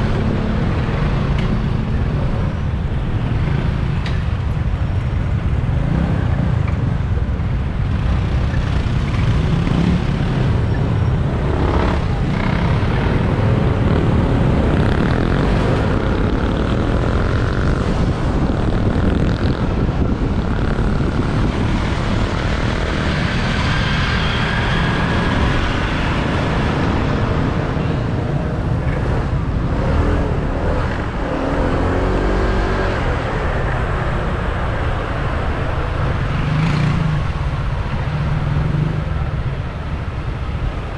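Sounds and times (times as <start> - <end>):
surrounding traffic: 0.0 - 40.9.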